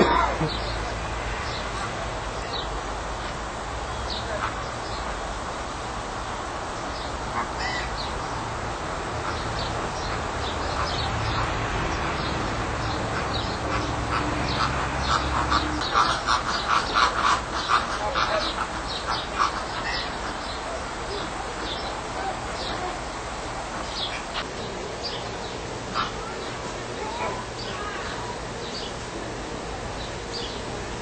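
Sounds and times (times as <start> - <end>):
flamingos honking: 1.5 - 31.0.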